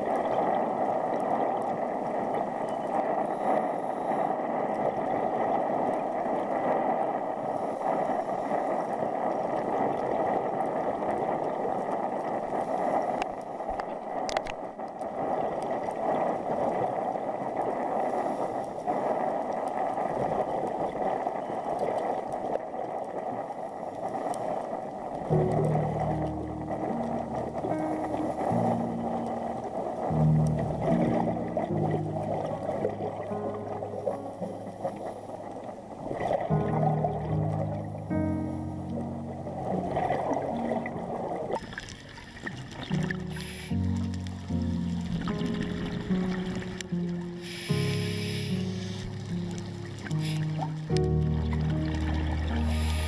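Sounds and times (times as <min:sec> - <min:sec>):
muffled underwater water rushing: 0:00.0 - 0:53.0.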